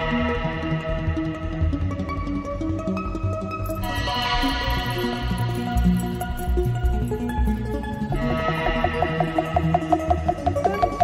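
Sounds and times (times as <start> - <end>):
instrumental music with deep bass: 0.0 - 11.0.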